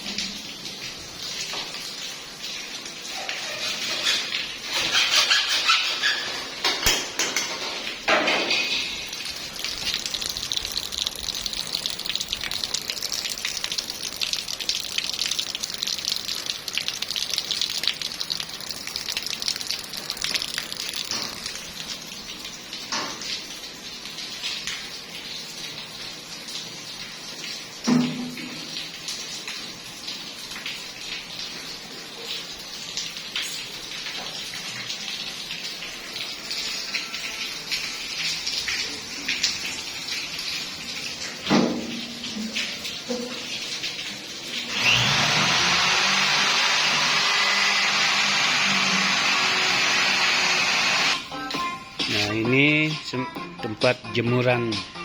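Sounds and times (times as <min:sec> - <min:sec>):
water running from tap: 0:00.0 - 0:52.9.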